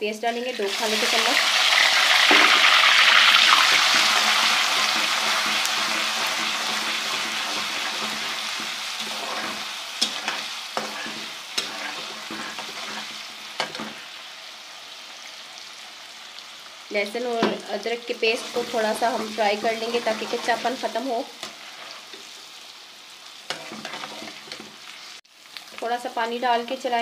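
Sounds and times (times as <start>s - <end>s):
onion sizzling in hot fat: 0.0s - 27.0s.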